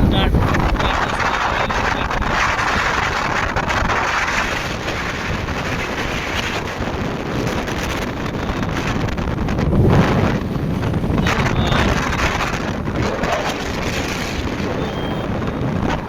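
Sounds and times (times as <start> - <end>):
road and traffic noise: 0.0 - 16.0
wind rush on microphone: 0.0 - 16.0.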